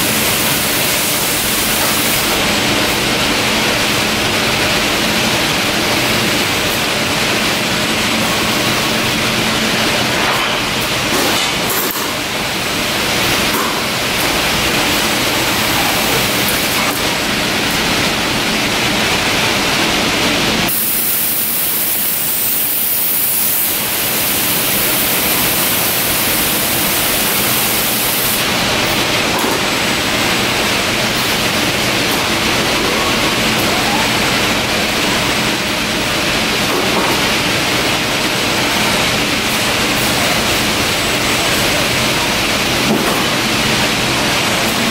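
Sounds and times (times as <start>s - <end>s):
factory machinery din: 0.0s - 44.9s.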